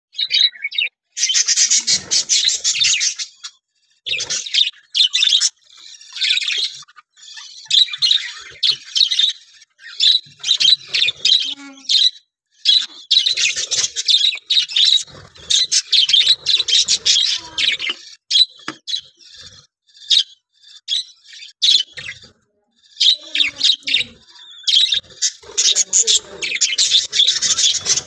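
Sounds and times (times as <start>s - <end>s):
budgerigars chattering: 0.2s - 28.0s.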